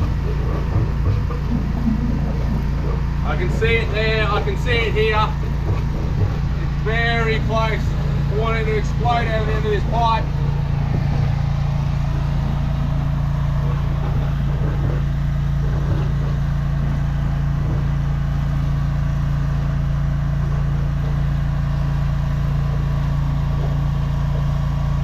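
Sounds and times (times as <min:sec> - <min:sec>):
drain jetter engine and pump running: 0:00.0 - 0:25.0.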